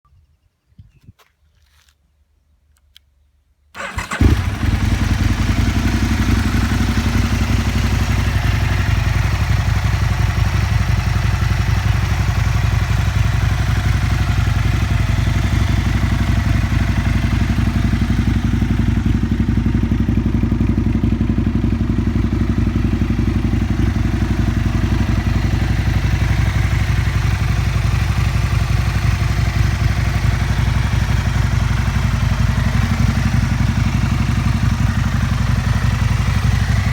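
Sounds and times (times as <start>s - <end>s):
motorcycle engine starting and idling: 3.7s - 36.9s.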